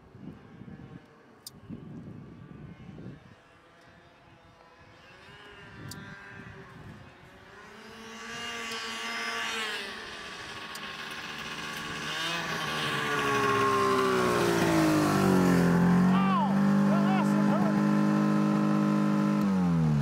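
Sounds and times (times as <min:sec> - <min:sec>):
snowmobile engine approaching: 0:00.0 - 0:20.0.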